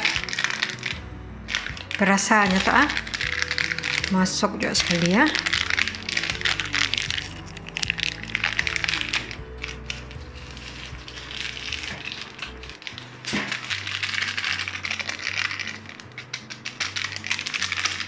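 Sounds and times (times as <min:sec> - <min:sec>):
background music with beat: 0:00.0 - 0:18.0.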